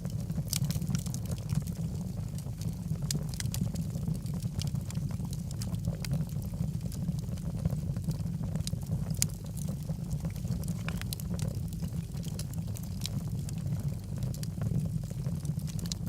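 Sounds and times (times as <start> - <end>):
logs crackling and popping: 0.0 - 16.0.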